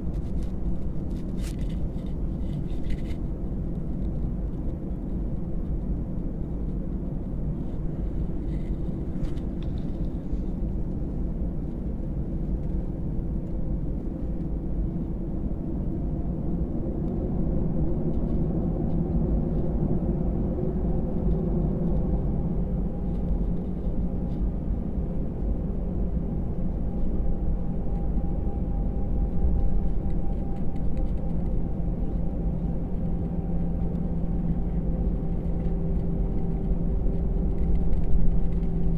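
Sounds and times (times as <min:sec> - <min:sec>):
airplane cabin engine rumble: 0:00.0 - 0:38.9
steady hums: 0:00.0 - 0:38.9.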